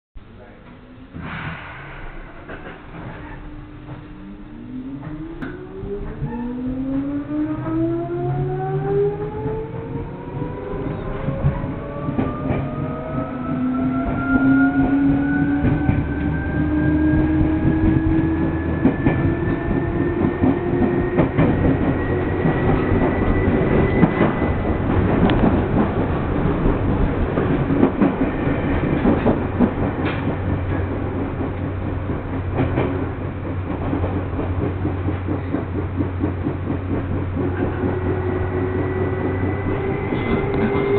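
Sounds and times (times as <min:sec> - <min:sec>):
train rumble: 0:00.2 - 0:40.9
wheels clacking on rails: 0:05.0 - 0:40.9.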